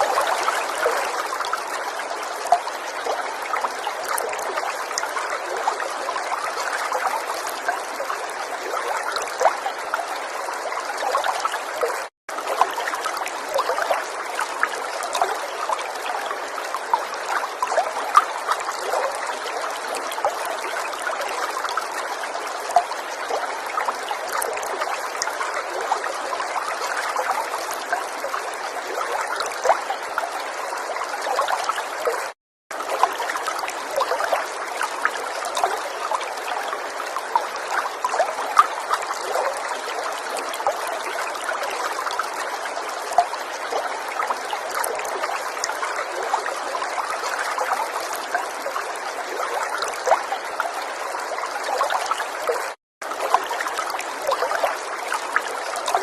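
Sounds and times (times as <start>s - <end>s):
river water trickling: 0.0s - 56.0s
small water splashes: 0.0s - 56.0s.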